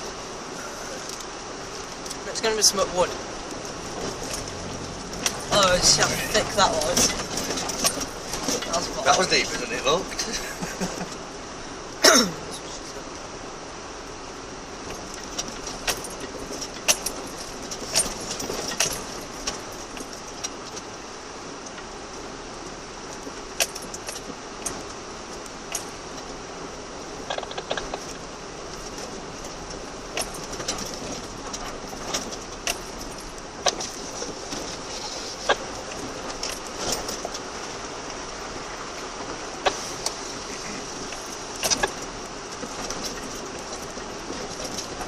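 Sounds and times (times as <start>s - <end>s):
car running noise: 0.0s - 45.0s
sharp clicks and rattles: 1.0s - 11.2s, 14.9s - 20.9s, 23.1s - 26.4s, 27.2s - 40.2s, 41.0s - 45.0s.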